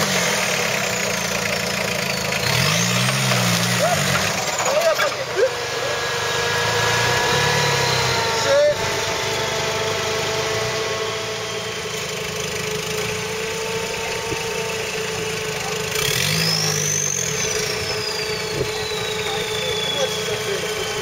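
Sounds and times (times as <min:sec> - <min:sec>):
buggy engine idling and revving: 0:00.0 - 0:21.0.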